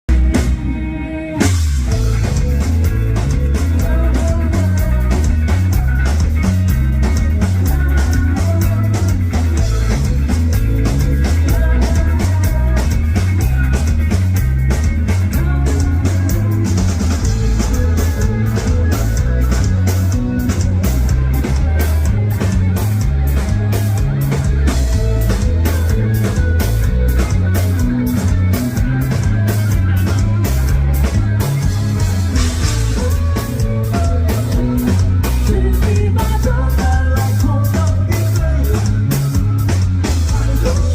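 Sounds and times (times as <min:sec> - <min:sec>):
rock band music: 0:00.0 - 0:40.9
drum kit beat: 0:01.4 - 0:40.9.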